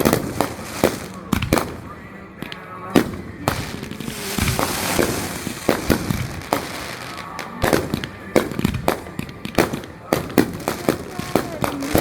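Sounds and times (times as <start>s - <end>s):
fireworks bangs: 0.0s - 12.0s
fireworks hissing crackle: 0.0s - 12.0s.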